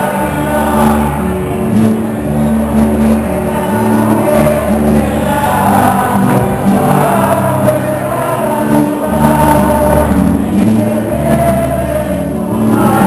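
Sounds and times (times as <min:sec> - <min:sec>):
live band with guitars: 0:00.0 - 0:13.0.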